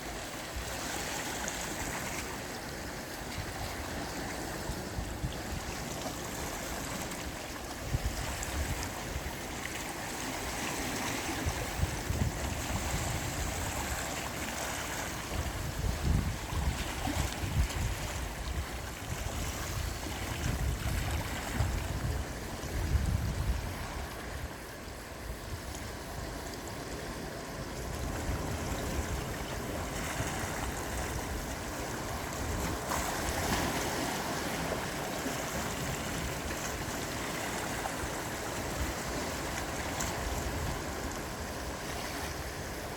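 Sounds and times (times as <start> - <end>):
sea waves breaking: 0.0 - 42.9
low rumbling wind gusts: 7.7 - 42.9.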